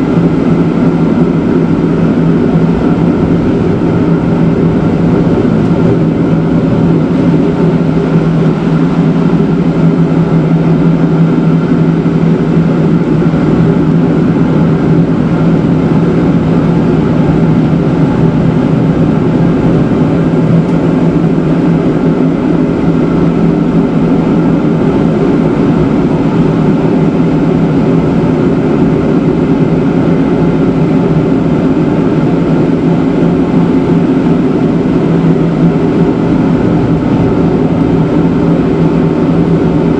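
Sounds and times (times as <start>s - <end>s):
rack train motor drone: 0.0s - 28.4s, 33.2s - 39.9s.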